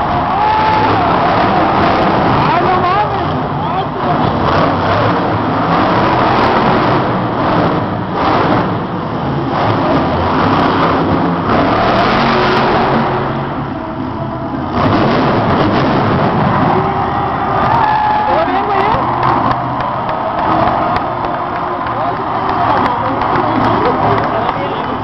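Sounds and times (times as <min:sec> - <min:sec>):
truck engine revving loudly: 0:00.0 - 0:25.0.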